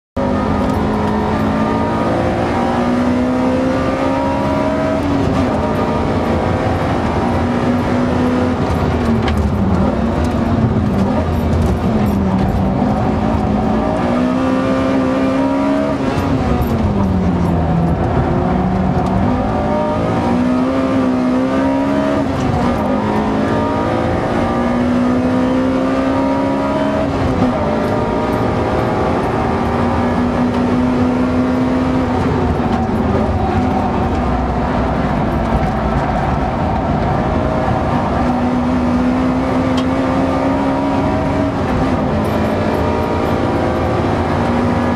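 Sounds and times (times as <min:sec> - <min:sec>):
car engine revving through gears: 0:00.2 - 0:44.9.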